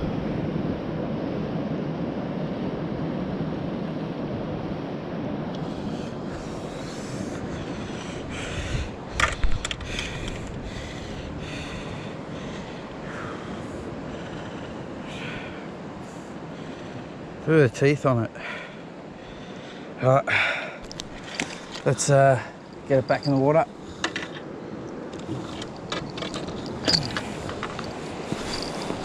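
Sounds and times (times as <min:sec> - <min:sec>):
wind and sea noise: 0:00.0 - 0:29.0.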